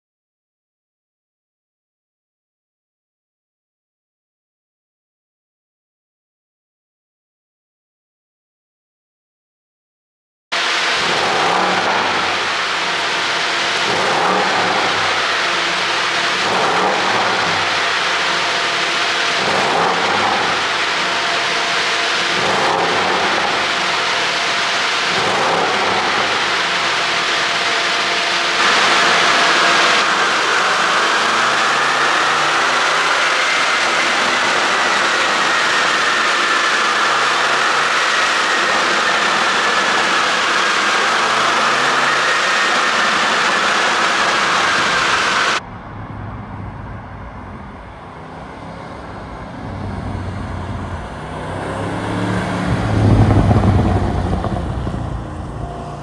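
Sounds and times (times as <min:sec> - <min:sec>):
car engine with whine: 0:10.6 - 0:56.0.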